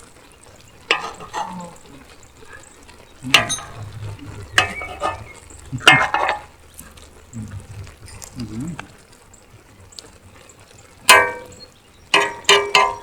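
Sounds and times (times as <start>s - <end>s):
utensil scraping a pan: 0.0s - 9.0s, 11.1s - 13.0s
food sizzling: 0.0s - 13.0s.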